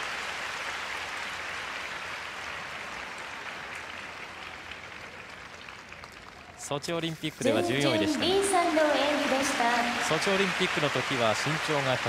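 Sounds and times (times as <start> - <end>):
audience applauding: 0.0 - 6.8, 7.4 - 12.0.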